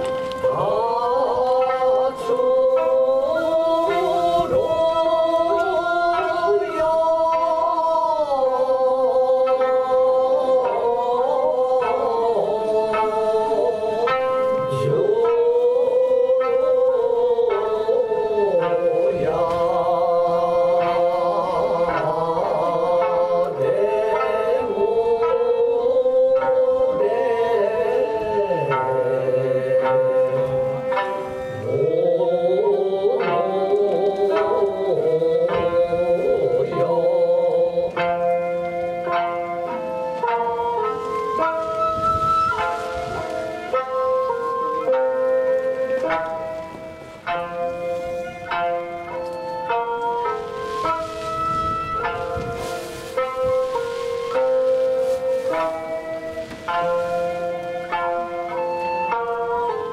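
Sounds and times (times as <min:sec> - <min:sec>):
plucked lute accompaniment: 0:00.0 - 0:59.9
slow singing with bending notes: 0:00.0 - 0:59.9.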